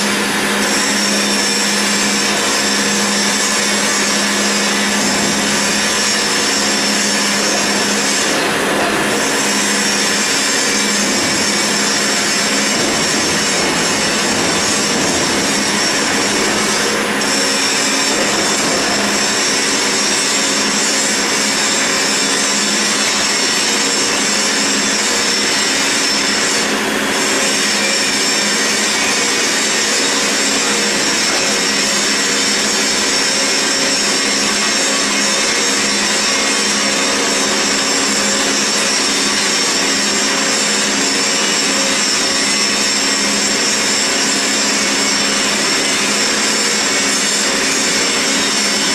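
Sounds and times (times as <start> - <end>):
lathe machine whir and hum: 0.0 - 48.9.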